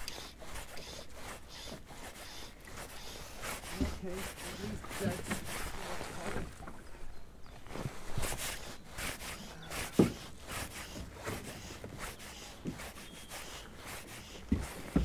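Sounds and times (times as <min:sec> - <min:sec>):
fly line scraping through rod guides: 0:00.0 - 0:06.7, 0:08.0 - 0:15.0.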